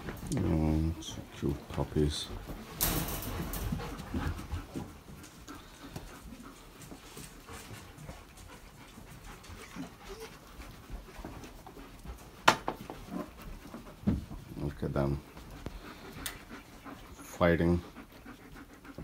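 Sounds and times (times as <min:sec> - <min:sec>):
dog panting: 0:00.0 - 0:19.0
small rustles: 0:00.0 - 0:19.0.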